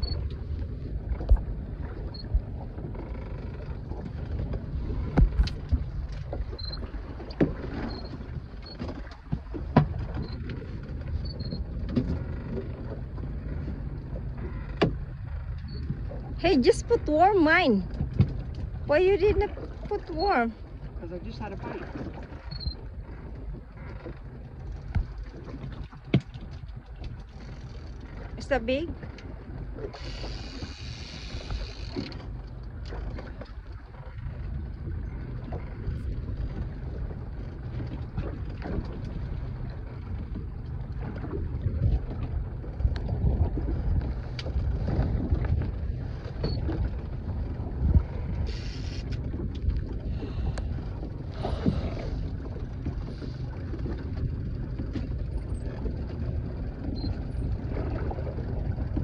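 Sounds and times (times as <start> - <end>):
wind and water against hull: 0.0 - 59.0.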